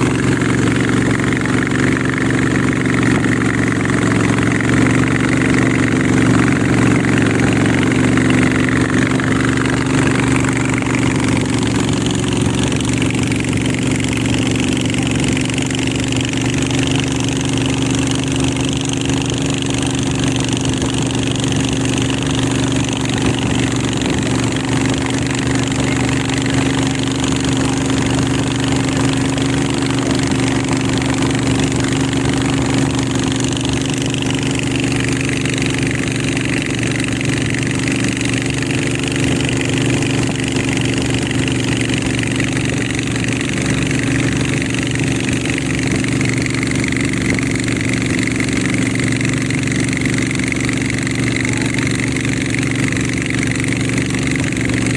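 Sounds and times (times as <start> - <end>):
motorboat engine drone: 0.0 - 54.9.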